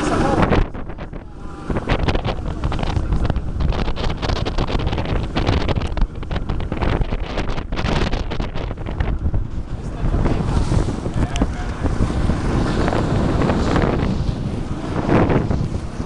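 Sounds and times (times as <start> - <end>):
boat engine running: 0.0 - 16.0
water rushing: 0.0 - 16.0
wind buffeting microphone: 0.0 - 16.0.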